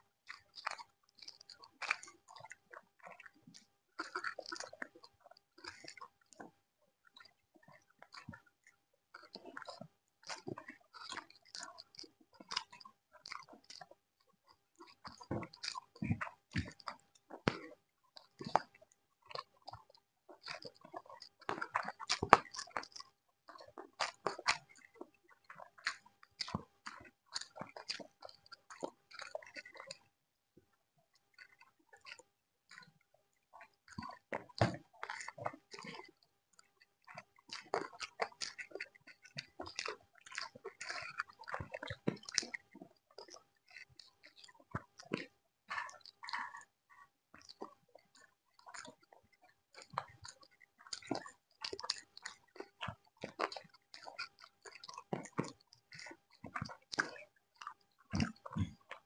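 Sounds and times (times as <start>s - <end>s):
people chewing and smacking: 0.0s - 59.0s.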